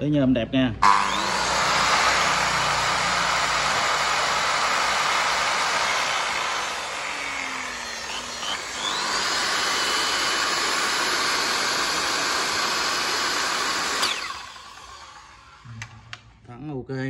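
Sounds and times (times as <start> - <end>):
circular saw whining: 0.8 - 16.2.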